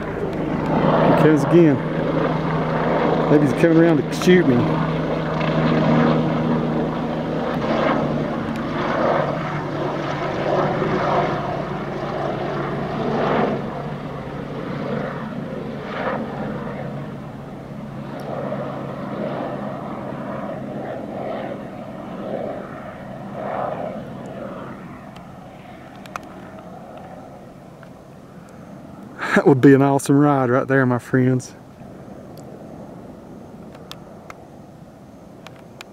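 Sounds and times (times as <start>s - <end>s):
helicopter rotor and engine drone: 0.0s - 35.9s.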